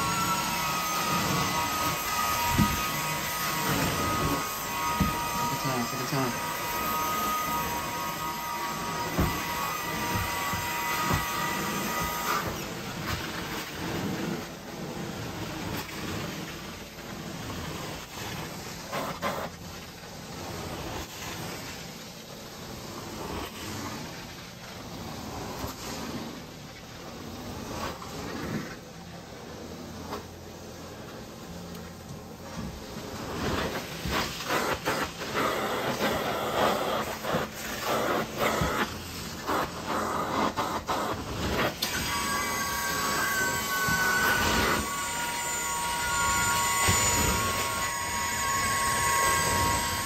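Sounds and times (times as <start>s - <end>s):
carpet cleaner suction rushing: 0.0s - 50.0s.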